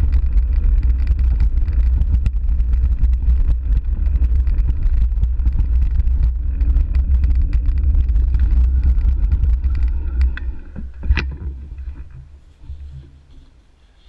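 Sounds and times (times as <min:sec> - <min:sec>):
bike rattles and clicks: 0:00.0 - 0:13.6
wind and road rumble: 0:00.0 - 0:13.8.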